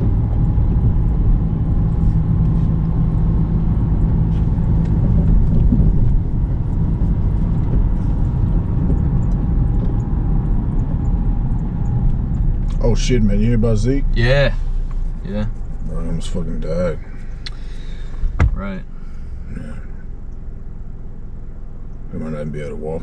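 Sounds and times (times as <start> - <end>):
car rumble inside cabin: 0.0 - 23.0.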